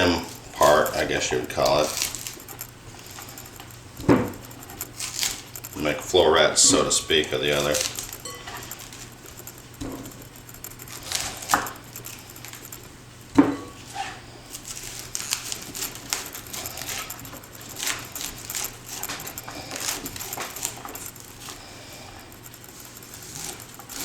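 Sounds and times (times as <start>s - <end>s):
knife cutting cauliflower: 0.0s - 6.2s, 6.8s - 12.9s, 13.8s - 24.0s.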